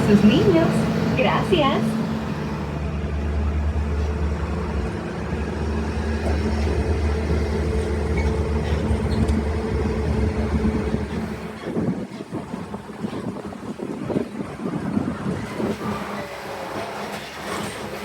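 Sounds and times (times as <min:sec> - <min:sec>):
rolling and wind noise: 0:00.0 - 0:18.0
tram engine drone: 0:00.0 - 0:18.0.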